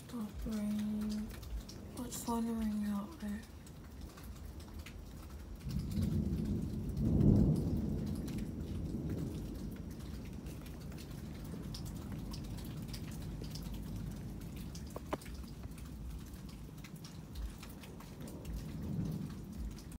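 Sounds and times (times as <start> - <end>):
raindrops pattering: 0.0 - 20.0
thunder rumbling: 0.0 - 20.0.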